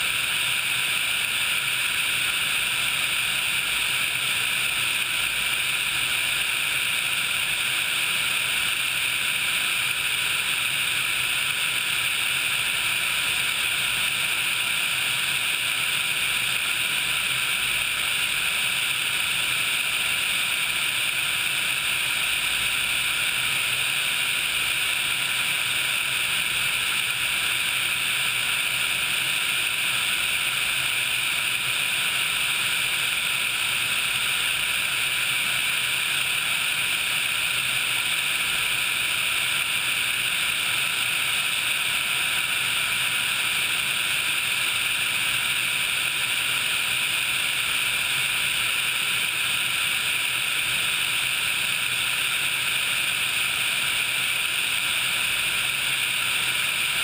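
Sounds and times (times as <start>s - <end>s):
helicopter engine and airflow rush: 0.0s - 57.0s.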